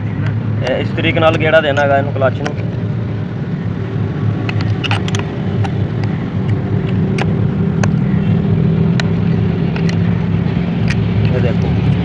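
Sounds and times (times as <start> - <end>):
low motor hum: 0.0 - 12.0
sharp metal clicks and taps: 0.2 - 2.7, 4.3 - 12.0.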